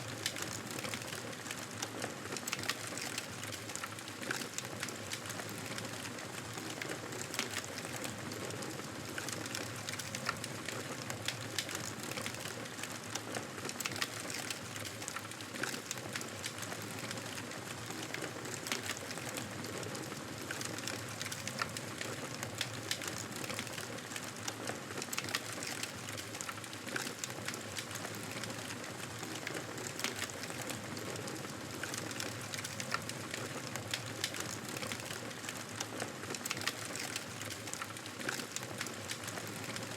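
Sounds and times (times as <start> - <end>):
fire popping and snapping: 0.1 - 39.9.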